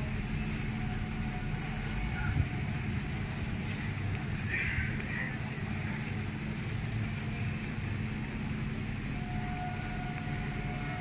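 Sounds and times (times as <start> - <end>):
thin steady whine: 0.0 - 11.0
train rumble and hum: 0.0 - 11.0.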